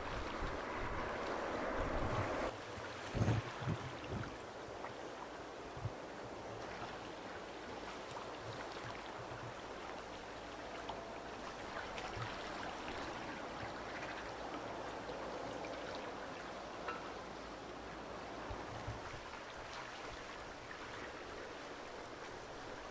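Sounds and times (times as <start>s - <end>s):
rushing water and ice: 0.0s - 22.9s.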